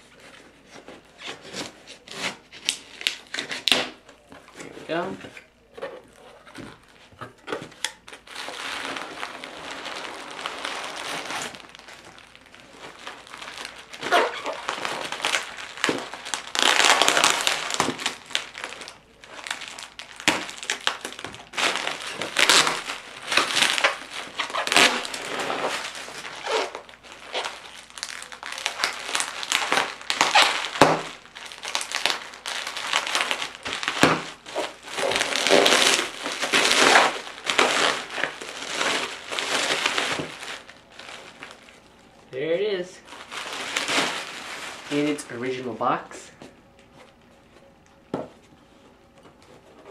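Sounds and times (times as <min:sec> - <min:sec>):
bubble wrap rustling: 0:00.0 - 0:49.9.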